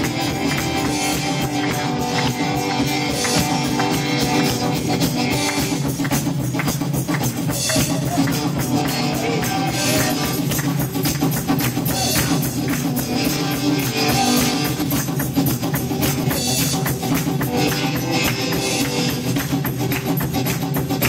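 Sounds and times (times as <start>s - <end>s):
live praise band music: 0.0s - 21.0s
tambourine shaken and struck: 0.0s - 21.0s.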